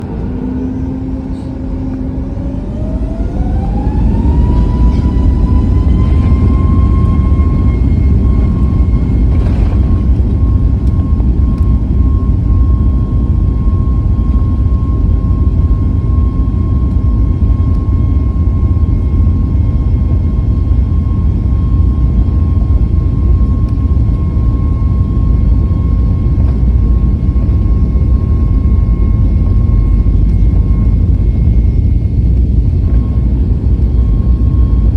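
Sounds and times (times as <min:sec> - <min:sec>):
heavy rumble: 0:00.0 - 0:34.9
jet engine whine: 0:00.0 - 0:34.9.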